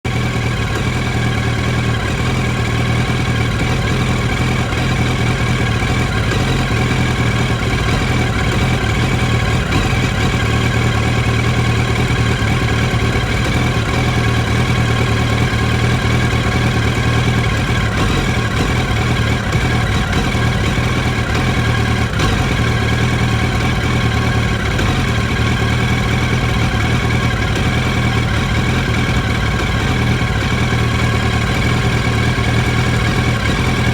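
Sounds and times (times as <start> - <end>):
motorcycle engine idling roughly: 0.0 - 33.9.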